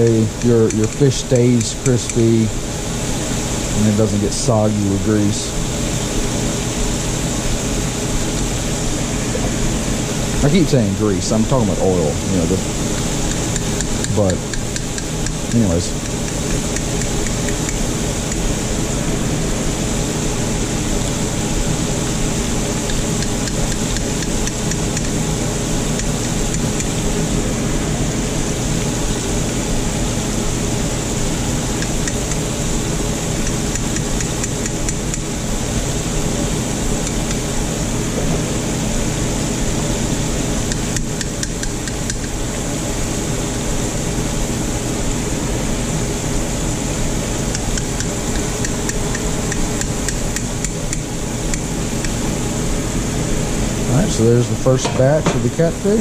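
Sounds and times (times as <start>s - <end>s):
deep fryer hissing and humming: 0.0s - 56.0s.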